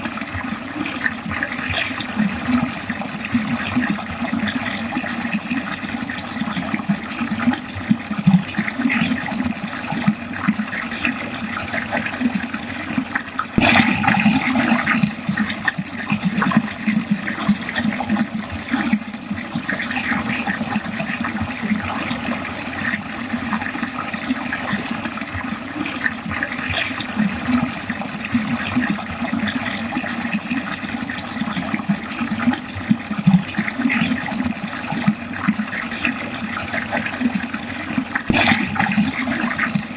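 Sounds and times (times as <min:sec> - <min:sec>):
water gurgling down a drain: 0:00.0 - 0:39.9.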